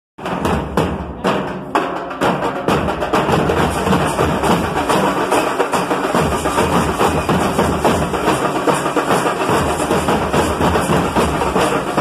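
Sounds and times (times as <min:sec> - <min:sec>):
drums beaten with sticks: 0:00.2 - 0:12.0.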